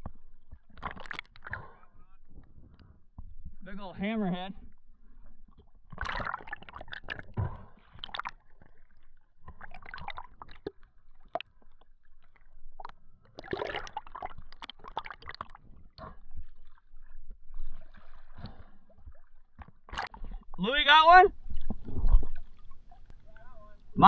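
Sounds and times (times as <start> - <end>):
water sloshing and gurgling: 0.0 - 24.0.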